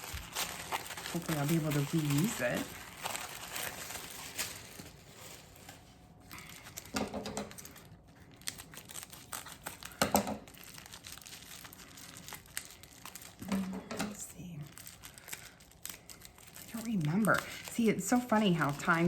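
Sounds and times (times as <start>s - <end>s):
tissue paper rustling: 0.0s - 6.9s, 7.5s - 19.0s.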